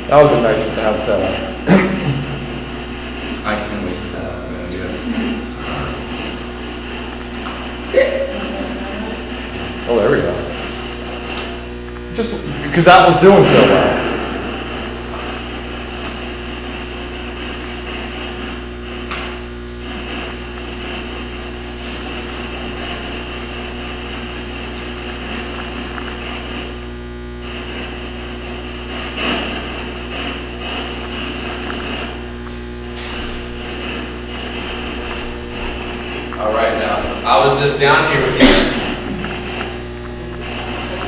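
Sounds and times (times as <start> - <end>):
constant hiss: 0.0 - 41.0
electrical hum: 0.0 - 41.0.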